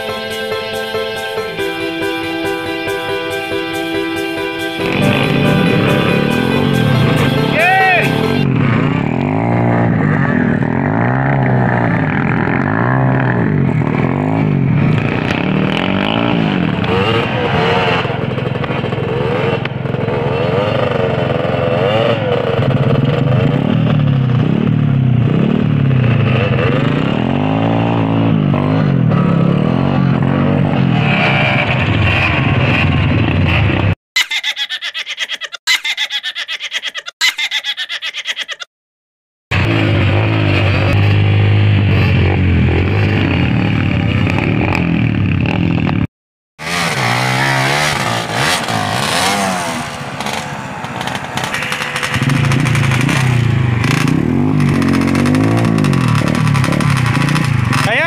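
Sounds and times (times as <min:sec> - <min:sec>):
motorcycle engine revving: 0:04.4 - 0:34.0, 0:39.5 - 0:58.0.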